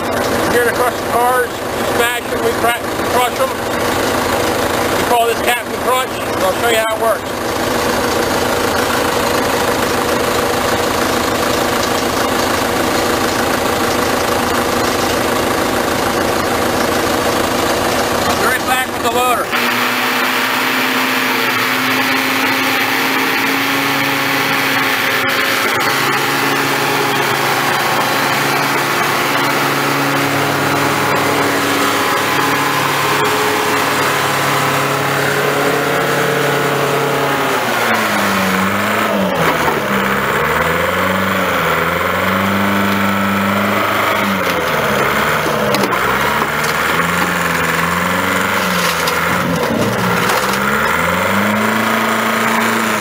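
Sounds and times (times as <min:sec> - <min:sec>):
heavy equipment engine revving: 0:00.0 - 0:53.0.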